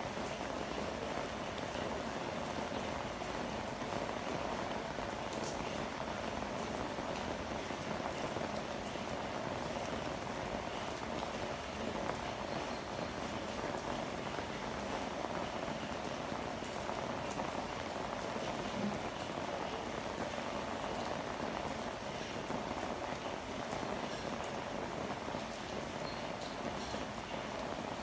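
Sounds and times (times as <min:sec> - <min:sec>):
rain pattering on surfaces: 0:00.0 - 0:28.0.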